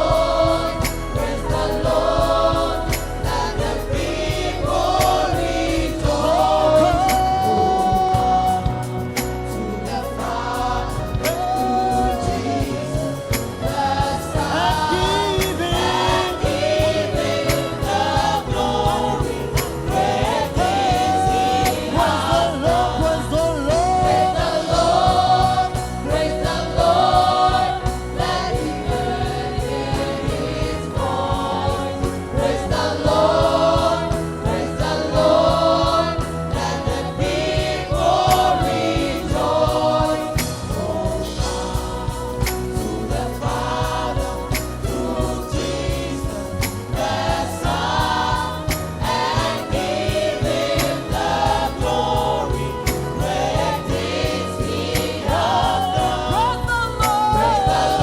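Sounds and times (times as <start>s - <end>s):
band with steady beat: 0.0s - 58.0s
group of voices singing: 0.0s - 58.0s.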